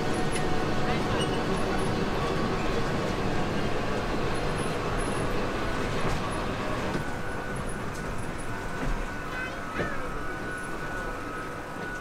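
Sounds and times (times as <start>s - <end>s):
ride train running: 0.0s - 12.0s.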